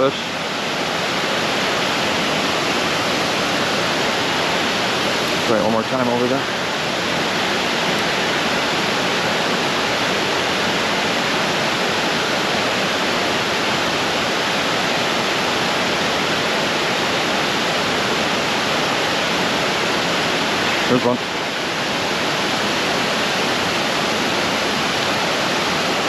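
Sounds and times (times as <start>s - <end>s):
creek water rushing over falls: 0.0s - 26.0s.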